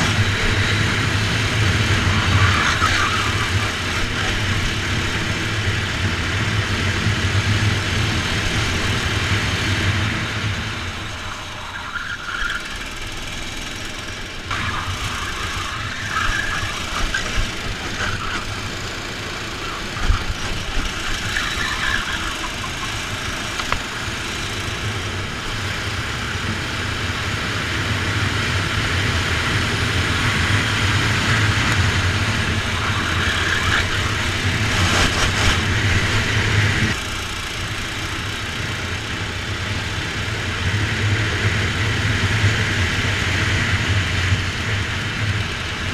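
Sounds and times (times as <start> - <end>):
kart engine racing: 0.0 - 45.9.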